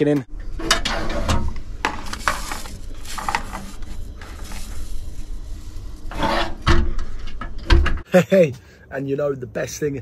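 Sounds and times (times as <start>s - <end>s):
low steady rumble: 0.3s - 9.6s.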